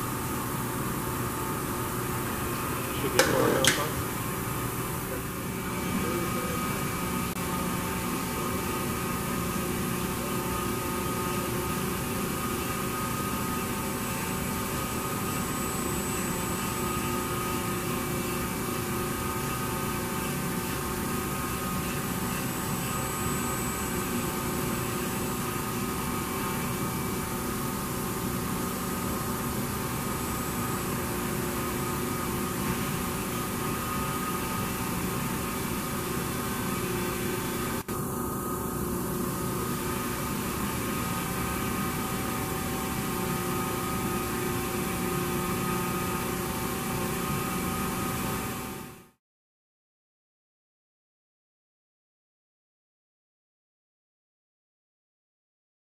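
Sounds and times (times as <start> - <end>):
lathe mechanical hum: 0.0 - 49.2.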